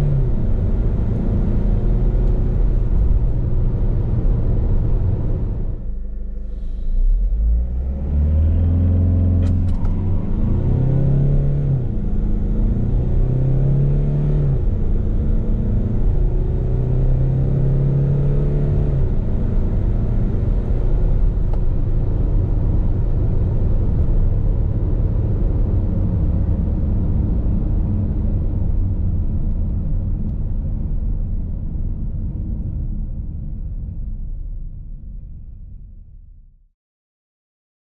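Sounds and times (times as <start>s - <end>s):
road and tyre noise: 0.0s - 35.3s
engine drone in car cabin: 0.0s - 35.4s.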